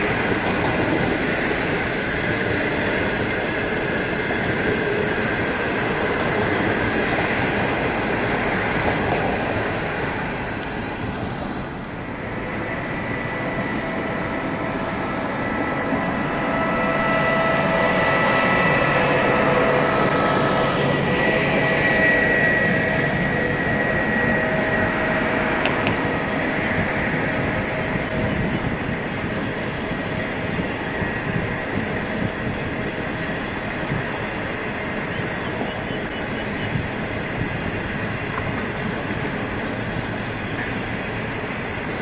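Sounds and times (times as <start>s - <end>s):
train rail rumble: 0.0s - 42.0s
whining tones: 0.0s - 42.0s.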